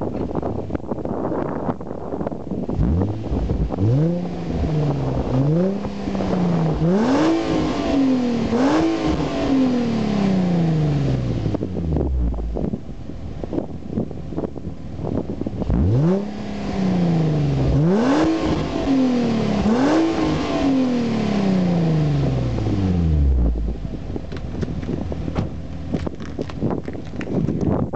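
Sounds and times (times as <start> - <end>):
wind noise: 0.0 - 27.9
car engine revving: 2.7 - 27.1.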